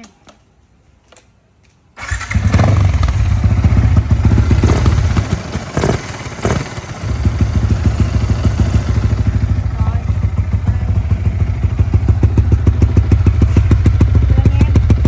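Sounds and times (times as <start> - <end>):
motorcycle engine starting and idling: 1.9 - 15.0.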